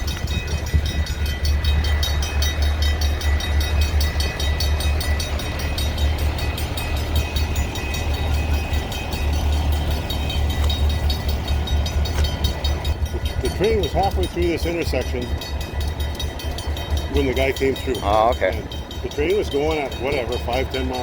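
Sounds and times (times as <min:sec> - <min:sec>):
diesel locomotives idling: 0:00.0 - 0:21.0.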